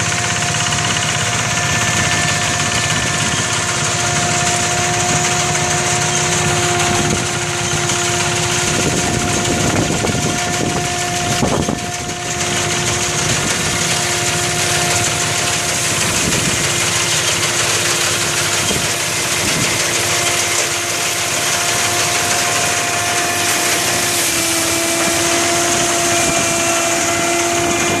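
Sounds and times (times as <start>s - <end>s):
rice thresher humming: 0.0s - 28.0s.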